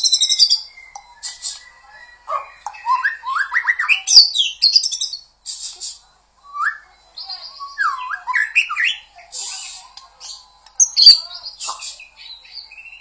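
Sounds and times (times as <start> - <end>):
bird singing whistled notes: 0.0 - 5.7, 6.4 - 13.0.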